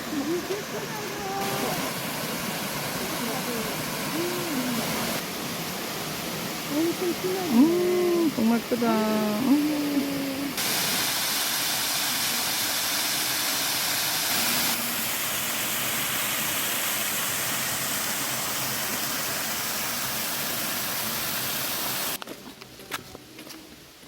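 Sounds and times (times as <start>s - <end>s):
stream water rushing: 0.0s - 22.2s.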